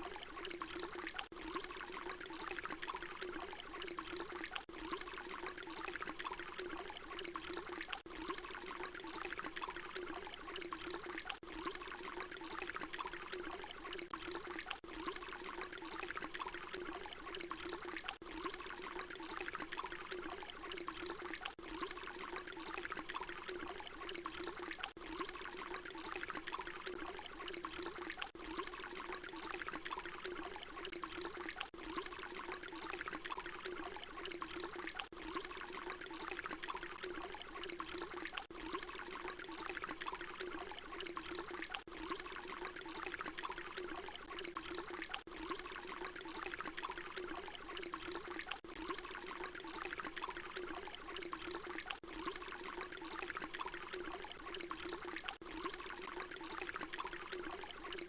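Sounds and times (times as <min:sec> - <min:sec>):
water pouring in a stream: 0:00.0 - 0:58.0.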